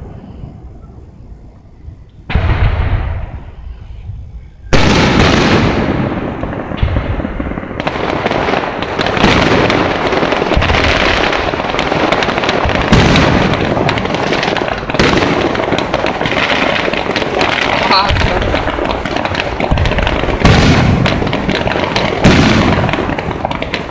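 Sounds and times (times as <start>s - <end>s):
fireworks crackling and popping: 0.0s - 23.9s
loud bangs: 4.7s - 23.9s.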